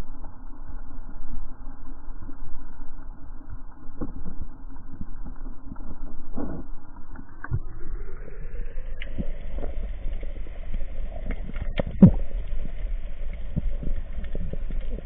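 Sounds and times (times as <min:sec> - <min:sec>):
underwater rumble of water: 0:00.0 - 0:15.0.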